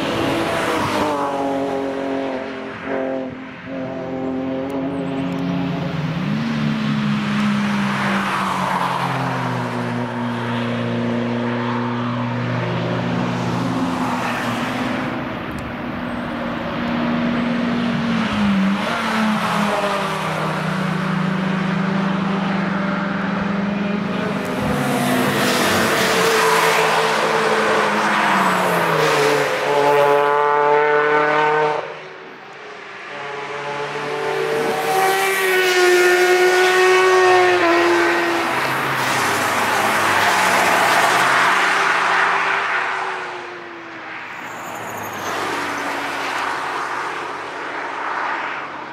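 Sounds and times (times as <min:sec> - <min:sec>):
race cars passing at speed: 0:00.0 - 0:48.9.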